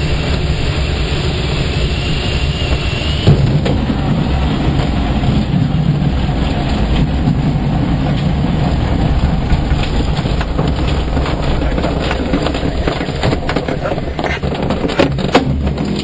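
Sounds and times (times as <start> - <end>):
airflow rumble in glider cockpit: 0.0 - 16.0
faint rattles: 2.7 - 16.0.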